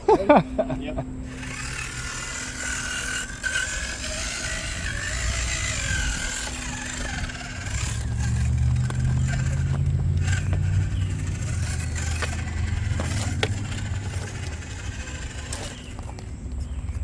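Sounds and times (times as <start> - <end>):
deep steady hum: 0.0 - 17.0
electric motor and gearbox whining: 0.0 - 17.0.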